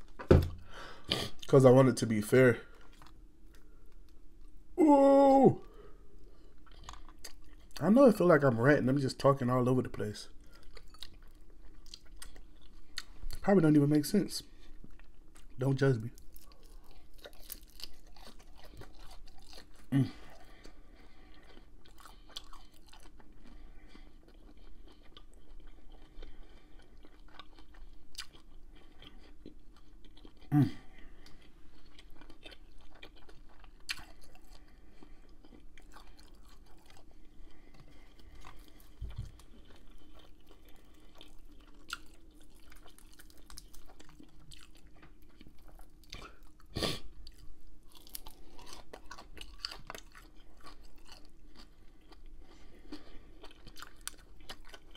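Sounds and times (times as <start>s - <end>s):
chewing with wet clicks and crunches: 2.7s - 4.6s, 6.2s - 13.8s, 14.4s - 54.9s.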